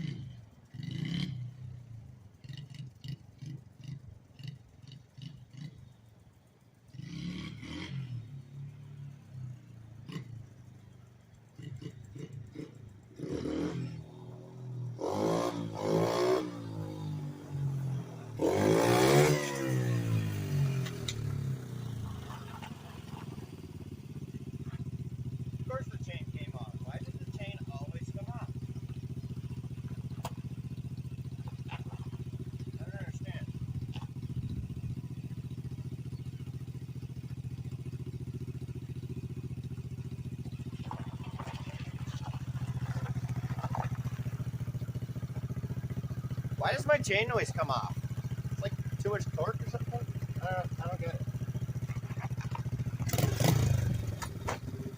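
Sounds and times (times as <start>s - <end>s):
motorbike engine revving: 0.0s - 6.0s, 6.9s - 10.8s, 11.5s - 54.9s.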